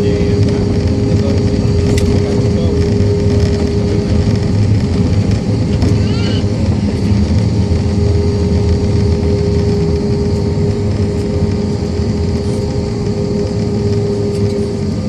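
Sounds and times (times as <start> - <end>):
constant droning tone: 0.0 - 15.0
jet engines rumbling: 0.0 - 15.0.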